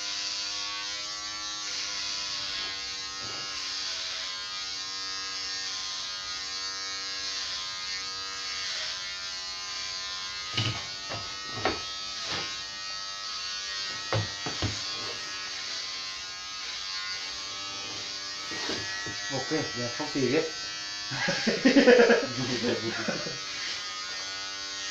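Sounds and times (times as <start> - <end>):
electric clippers buzzing: 0.0 - 24.9.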